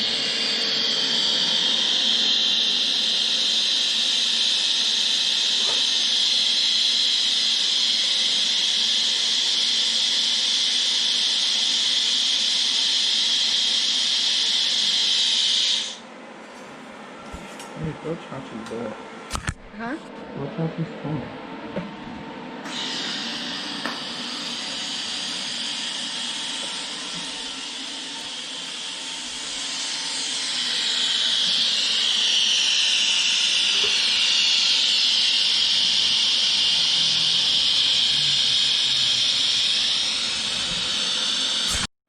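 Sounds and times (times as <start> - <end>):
high-pitched hiss with whine: 0.0 - 16.0, 22.6 - 41.9.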